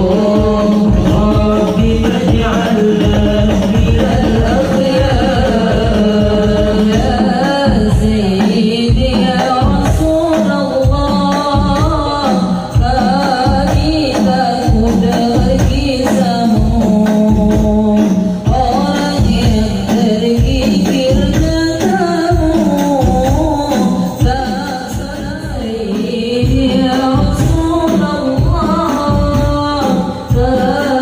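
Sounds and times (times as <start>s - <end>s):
devotional group singing: 0.0s - 31.0s
frame drums in steady rhythm: 0.0s - 31.0s.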